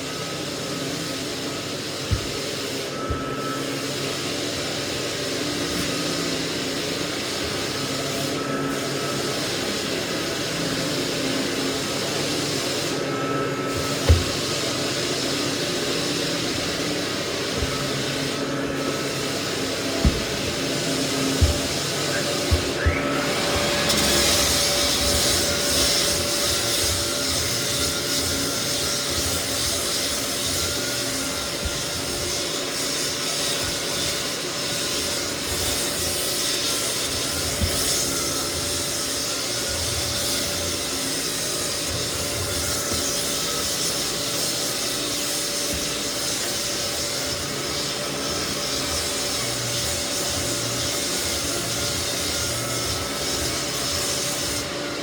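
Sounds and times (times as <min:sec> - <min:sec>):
belt sander rasping on wood floor: 0:00.0 - 0:55.0.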